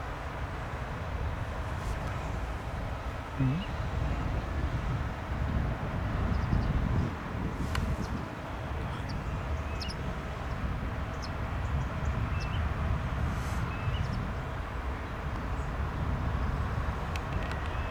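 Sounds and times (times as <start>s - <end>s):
distant light aircraft engine drone: 0.0s - 17.9s
wind rumbling on microphone: 0.0s - 17.9s.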